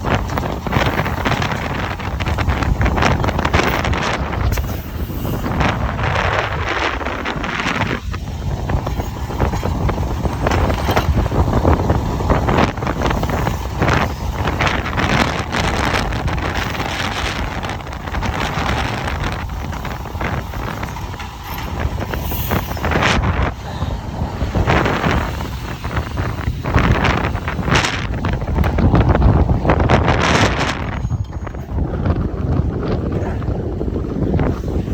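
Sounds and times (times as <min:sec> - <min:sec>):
vehicle engine rumble: 0:00.0 - 0:34.9
wind buffeting microphone: 0:00.0 - 0:34.9.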